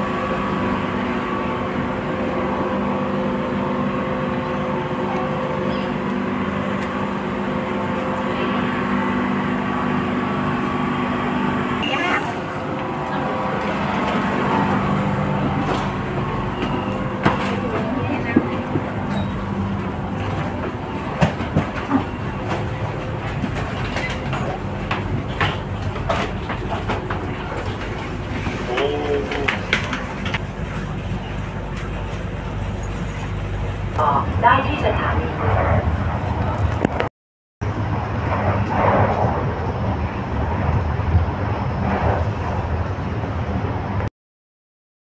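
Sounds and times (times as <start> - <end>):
train rumbling on rails: 0.0 - 44.1.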